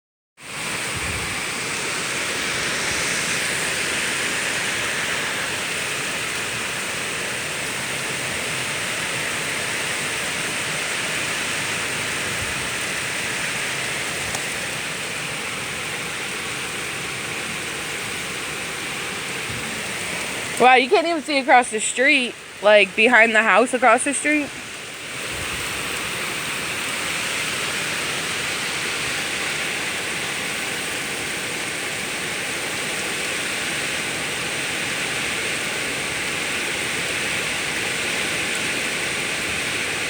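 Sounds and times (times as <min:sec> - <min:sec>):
heavy rain: 0:00.4 - 0:40.0
strong wind: 0:00.5 - 0:40.0.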